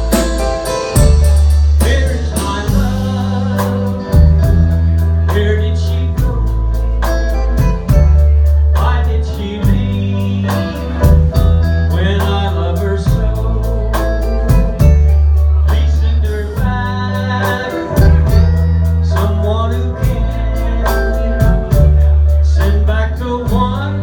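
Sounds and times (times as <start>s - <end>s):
drum kit beat: 0.0s - 24.0s
electric bass: 0.0s - 24.0s
electric guitar: 0.0s - 24.0s
man singing: 0.0s - 24.0s.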